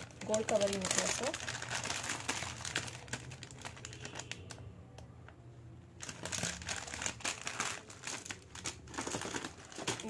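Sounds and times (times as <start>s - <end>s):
plastic packets rustling: 0.0s - 4.6s, 6.0s - 10.0s.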